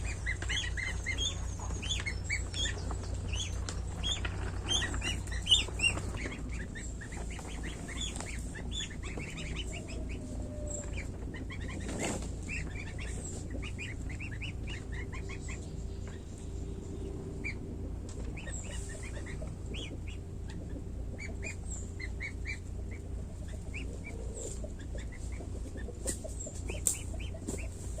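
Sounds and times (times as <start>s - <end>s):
goslings peeping: 0.0s - 28.0s
steady low hum: 0.0s - 28.0s.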